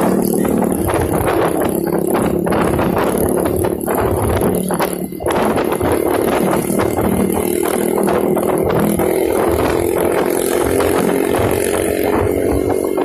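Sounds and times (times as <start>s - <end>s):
motorcycle engine running: 0.0s - 13.0s
motorcycle rattle: 0.0s - 13.0s.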